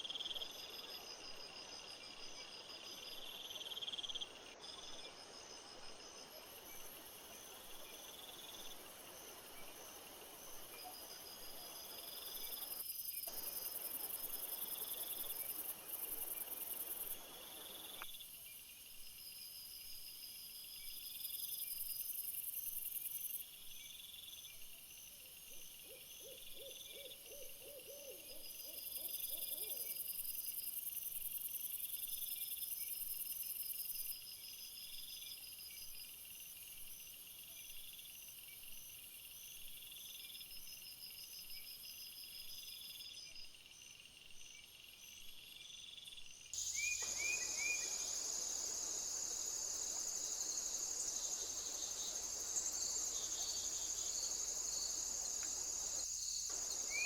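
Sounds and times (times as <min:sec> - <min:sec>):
background hiss: 0:00.0 - 0:57.0
crickets chirping: 0:00.0 - 0:57.0.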